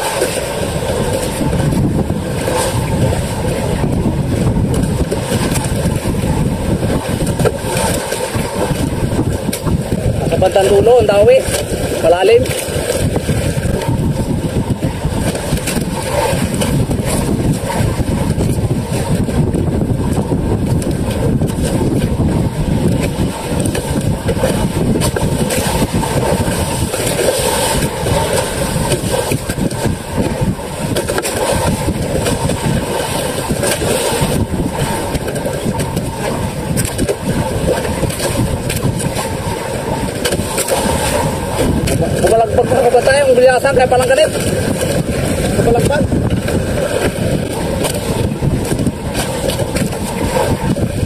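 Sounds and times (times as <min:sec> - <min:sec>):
boat engine running: 0:00.0 - 0:51.0
sea noise: 0:00.0 - 0:51.0
wind: 0:00.0 - 0:51.0.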